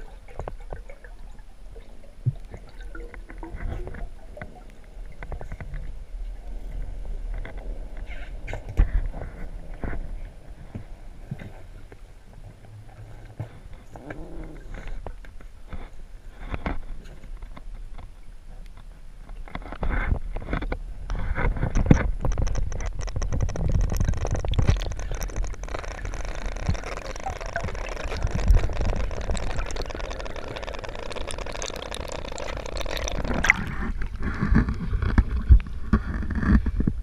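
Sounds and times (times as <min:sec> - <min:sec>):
underwater clicks and knocks: 0:00.0 - 0:01.1, 0:02.2 - 0:06.0, 0:06.7 - 0:37.0
water lapping and sloshing: 0:00.0 - 0:37.0.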